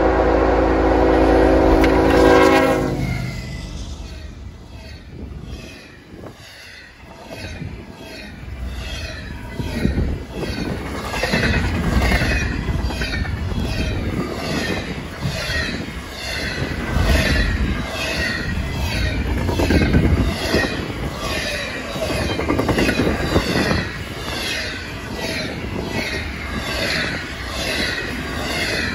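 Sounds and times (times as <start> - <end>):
low train rumble: 0.0 - 28.9
train wheels clattering on rails: 3.0 - 28.9.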